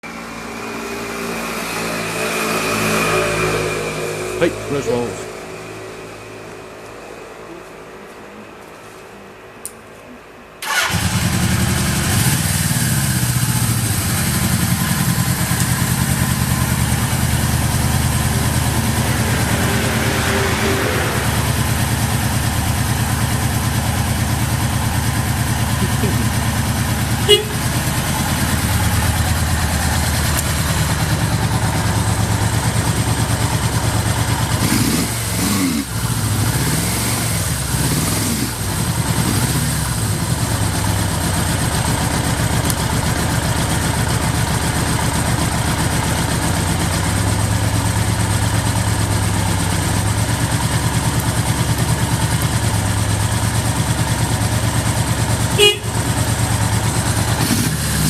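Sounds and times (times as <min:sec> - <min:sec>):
motorcycle engine idling and revving: 0:00.0 - 0:08.2, 0:10.6 - 0:58.0.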